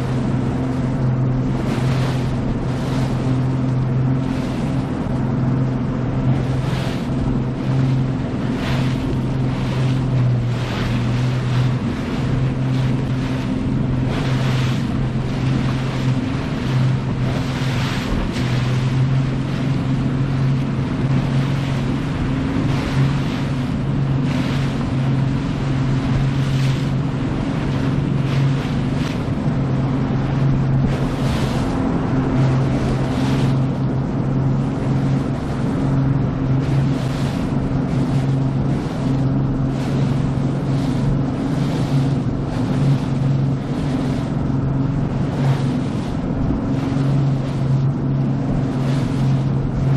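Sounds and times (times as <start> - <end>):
outboard motor droning: 0.0 - 49.9
water rushing against boat: 0.0 - 49.9
wind buffeting microphone: 0.0 - 49.9.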